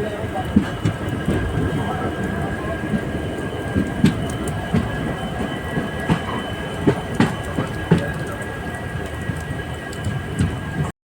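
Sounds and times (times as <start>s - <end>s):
train wheel rumble with knocks: 0.0s - 10.9s.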